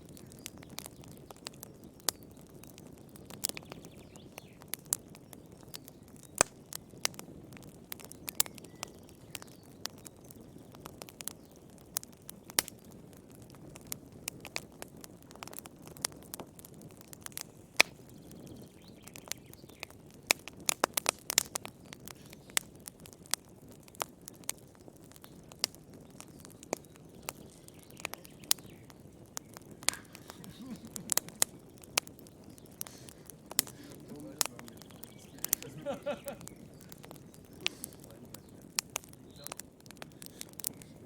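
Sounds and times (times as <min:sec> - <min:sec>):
low rumble of fire: 0:00.0 - 0:41.0
wood fire popping and snapping: 0:00.0 - 0:41.0.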